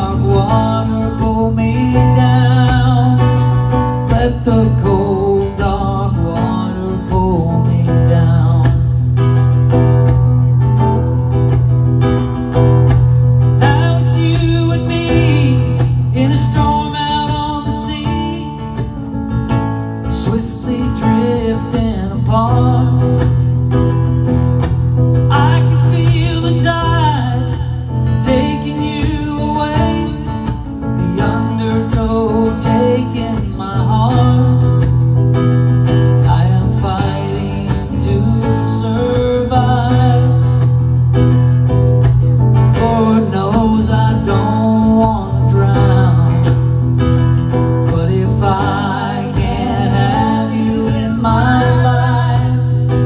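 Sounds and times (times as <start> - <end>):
man singing: 0.0 - 9.5, 13.6 - 19.1, 19.9 - 24.0, 25.2 - 35.2, 35.9 - 41.0, 42.6 - 53.0
classical guitar strummed and picked: 0.0 - 53.0.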